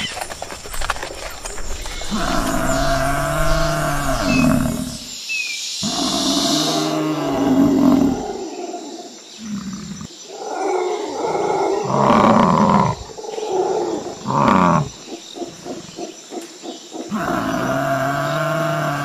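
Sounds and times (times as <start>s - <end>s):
animal roars and bellows: 1.8s - 5.1s, 5.8s - 15.9s, 17.1s - 19.0s.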